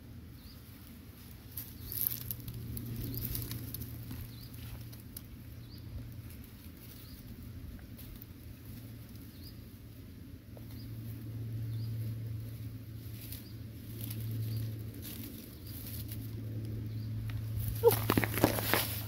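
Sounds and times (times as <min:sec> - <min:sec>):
steady low hum: 0:00.0 - 0:19.0
hands rustling through dry leaves: 0:00.4 - 0:19.0.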